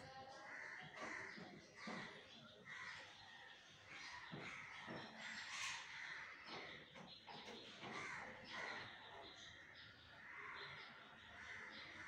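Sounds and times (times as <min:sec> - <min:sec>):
faint rough bird calls: 0:00.0 - 0:12.0.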